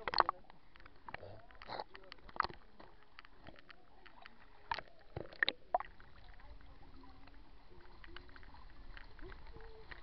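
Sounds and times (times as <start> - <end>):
water sloshing and lapping: 0.0 - 10.0.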